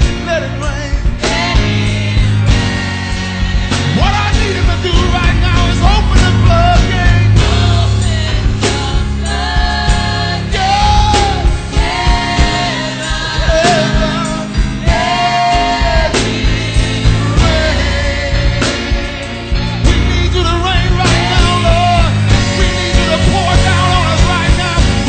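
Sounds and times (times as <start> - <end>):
bass and drums: 0.0 - 25.0
gospel group singing: 0.0 - 25.0.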